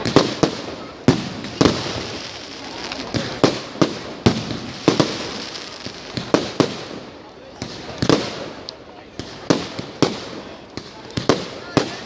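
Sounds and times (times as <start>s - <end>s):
fireworks bangs: 0.0s - 12.0s
steady fireworks crackle: 0.0s - 12.0s.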